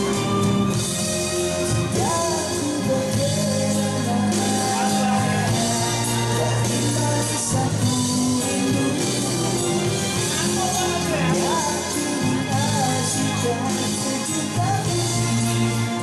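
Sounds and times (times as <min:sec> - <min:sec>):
amplified band music: 0:00.0 - 0:16.0
man singing through microphone: 0:01.3 - 0:16.0.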